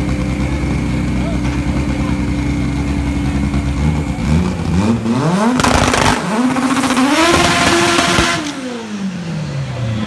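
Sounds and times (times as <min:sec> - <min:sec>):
drag car engine revving: 0:00.0 - 0:10.0.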